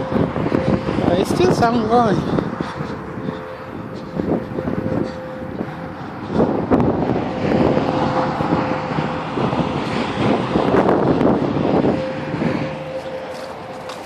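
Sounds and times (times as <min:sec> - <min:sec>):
distant tornado siren: 0:00.0 - 0:14.0
vehicle passing rushing noise: 0:00.0 - 0:14.0.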